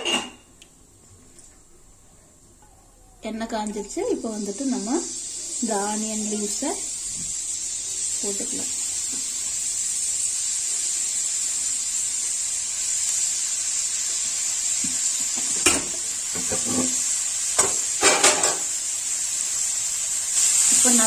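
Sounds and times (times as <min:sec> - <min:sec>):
onions sizzling in hot oil: 0:03.2 - 0:21.0.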